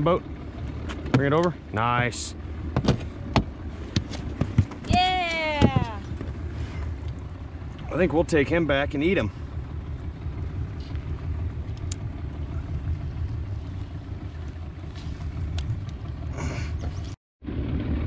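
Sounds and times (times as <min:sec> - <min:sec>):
outboard motor rumbling: 0:00.0 - 0:18.0.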